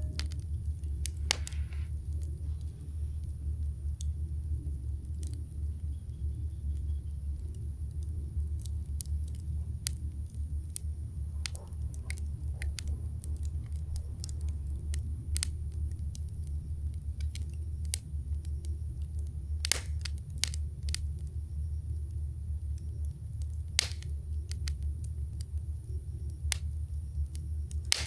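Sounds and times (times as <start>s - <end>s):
campfire crackling and popping: 0.0s - 28.0s
fire low rumble: 0.0s - 28.0s.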